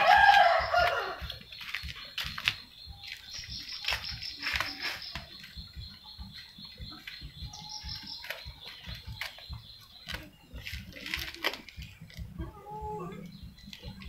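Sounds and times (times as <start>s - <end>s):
high chirping: 0.0s - 14.0s.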